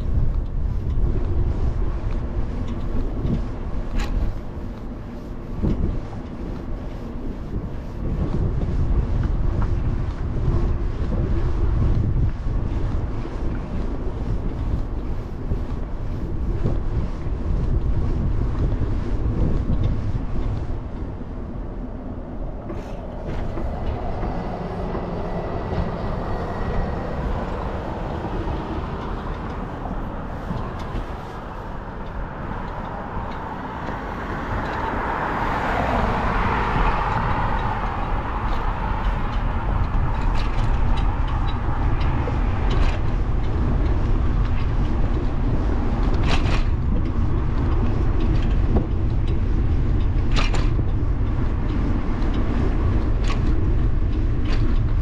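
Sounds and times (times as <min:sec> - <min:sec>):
low road rumble: 0:00.0 - 0:55.0
traffic noise: 0:00.0 - 0:55.0
wind buffeting microphone: 0:00.0 - 0:55.0.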